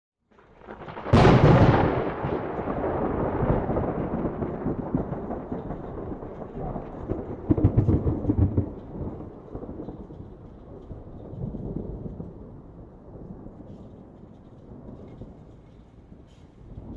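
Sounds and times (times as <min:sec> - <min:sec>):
thunder crack and rumble: 0:00.3 - 0:16.9.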